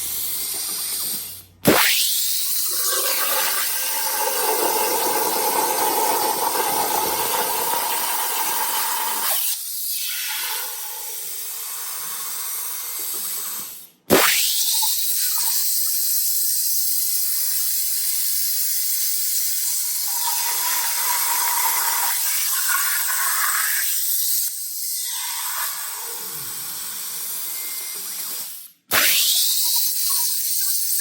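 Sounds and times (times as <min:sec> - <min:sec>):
plasma cutter hissing: 0:00.0 - 0:02.7, 0:08.0 - 0:31.0.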